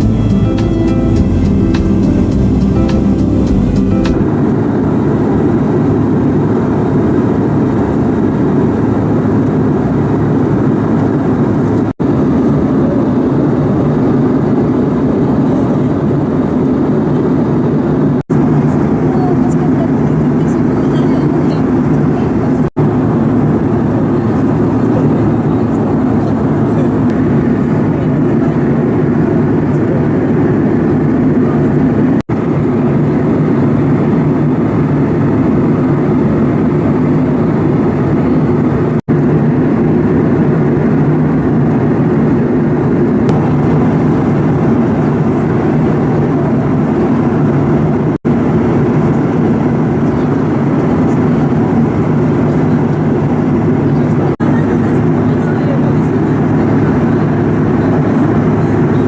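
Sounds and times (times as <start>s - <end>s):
airliner engines and airflow rushing: 0.0s - 59.0s.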